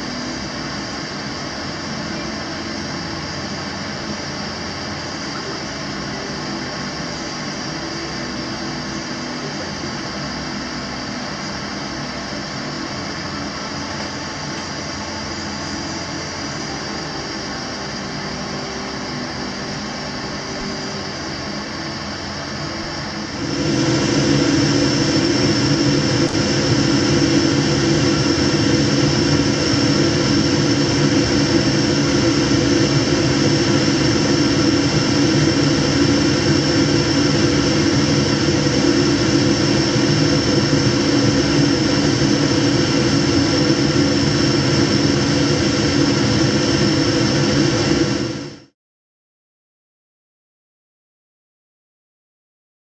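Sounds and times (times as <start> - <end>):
gas burner rushing: 0.0 - 48.7.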